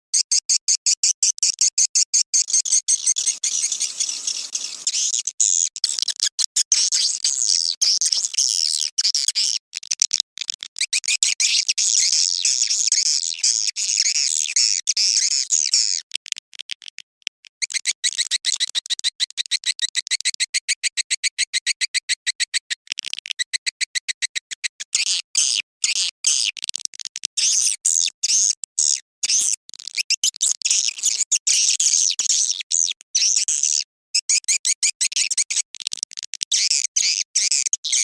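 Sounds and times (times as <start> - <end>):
swiftlet call clicks and twitters: 0.1 - 38.0.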